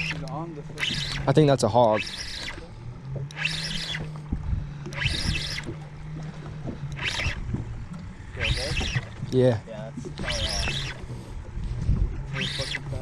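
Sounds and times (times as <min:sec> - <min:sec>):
steady low hum: 0:00.0 - 0:13.0
water slapping against hull: 0:00.0 - 0:13.0.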